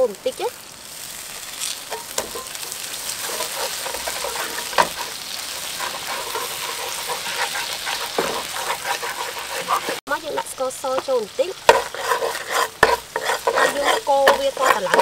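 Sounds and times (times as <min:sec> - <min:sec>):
liquid sizzling in a frying pan: 0:00.0 - 0:15.0
metal spatula scraping pan: 0:01.9 - 0:10.5, 0:11.6 - 0:15.0
spatula clacking on pan: 0:01.9 - 0:11.1, 0:11.7 - 0:15.0.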